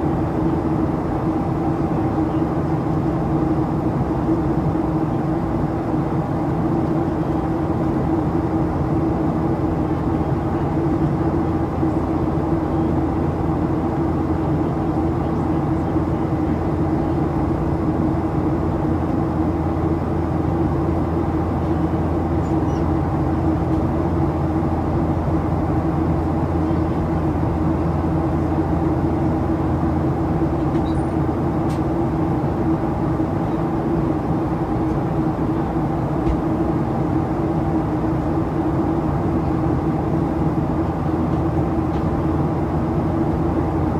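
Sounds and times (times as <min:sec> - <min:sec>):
airplane cabin drone: 0:00.0 - 0:43.9.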